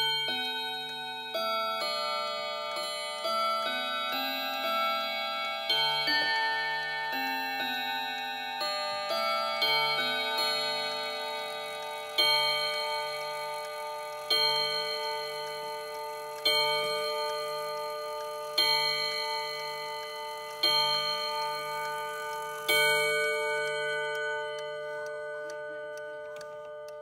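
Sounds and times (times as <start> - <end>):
clock chime strokes: 0.0 - 27.0
faint clock ticking: 0.0 - 27.0.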